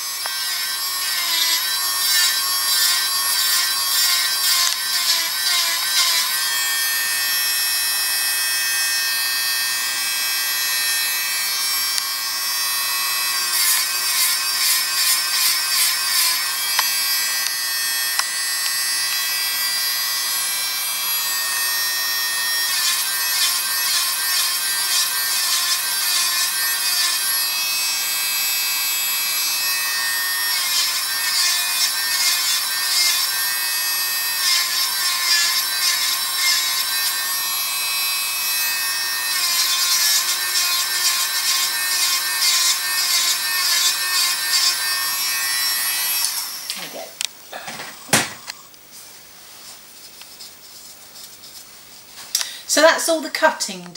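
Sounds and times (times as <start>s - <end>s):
nail drill high whine: 0.0s - 47.2s.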